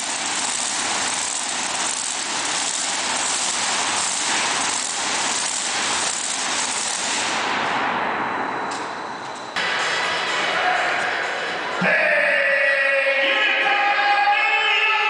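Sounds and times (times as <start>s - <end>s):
loud hissing machine noise: 0.0s - 15.0s.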